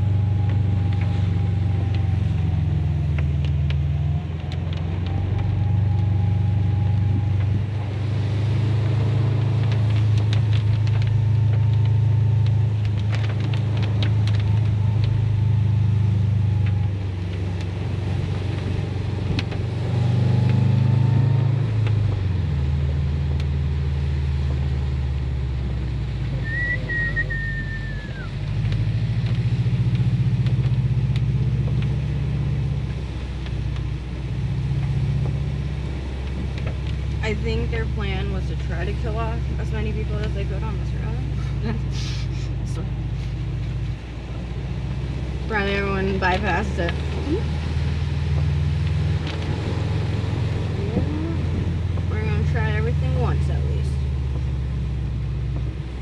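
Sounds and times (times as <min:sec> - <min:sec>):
car engine revving: 0:00.0 - 0:56.0
road noise inside car: 0:00.0 - 0:56.0.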